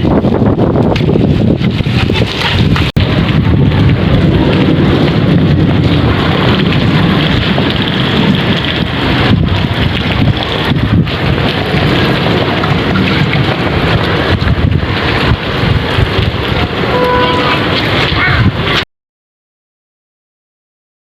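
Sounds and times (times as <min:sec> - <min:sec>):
wind buffeting microphone: 0:00.0 - 0:18.8
rain: 0:00.0 - 0:18.9.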